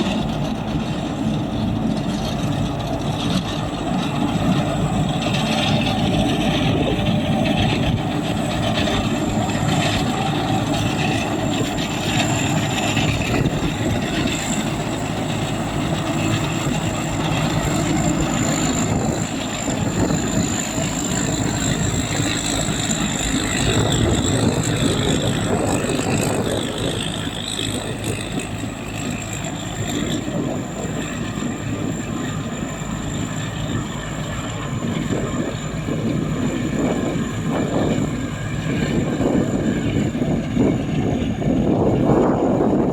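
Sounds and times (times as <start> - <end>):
combine harvester running: 0.0 - 42.9
steady high whine: 0.0 - 42.9.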